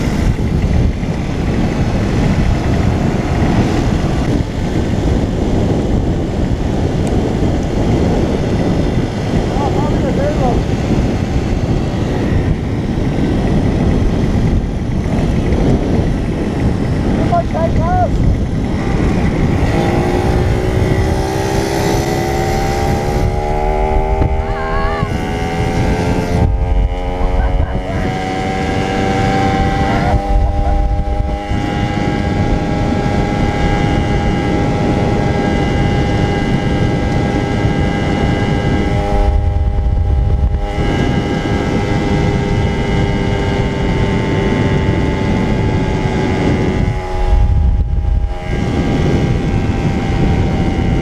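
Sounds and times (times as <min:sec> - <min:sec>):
small motorcycle engines revving: 0:00.0 - 0:51.0
wind rushing over microphone: 0:00.0 - 0:51.0.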